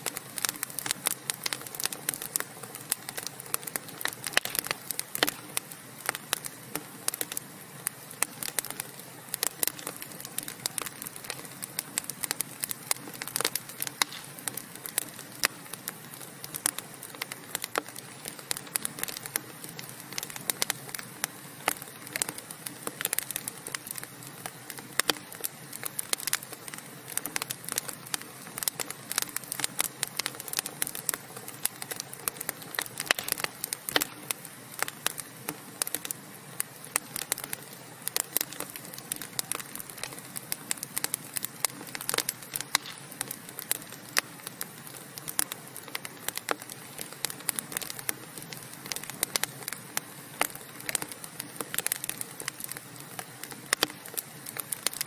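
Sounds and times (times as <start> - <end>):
hiss of burning logs: 0.0 - 55.0
sharp pops and snaps: 0.0 - 55.0
wood fire crackling: 0.0 - 55.0.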